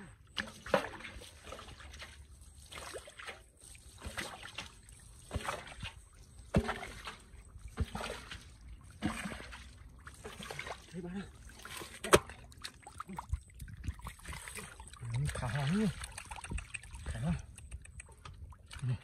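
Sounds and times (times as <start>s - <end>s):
metal basin scooping water: 0.1s - 17.5s.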